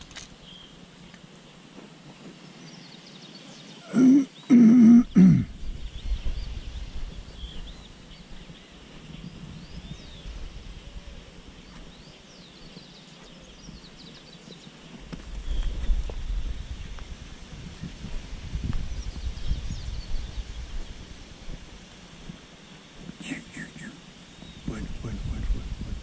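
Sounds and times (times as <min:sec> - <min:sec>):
small birds chirping: 0:00.0 - 0:26.0
wind rumble on microphone: 0:05.0 - 0:26.0.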